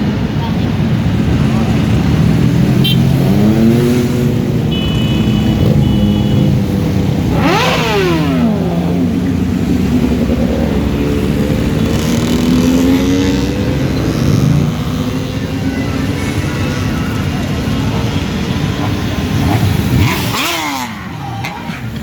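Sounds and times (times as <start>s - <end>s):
motorcycle engines running: 0.0s - 22.0s
motorcycle revving: 0.0s - 22.0s.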